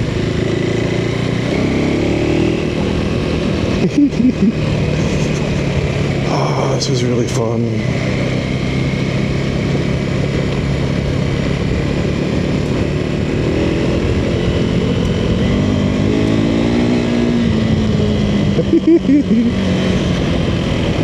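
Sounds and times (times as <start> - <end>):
motorcycle engine under way: 0.0 - 21.0
steady rushing noise: 0.0 - 21.0.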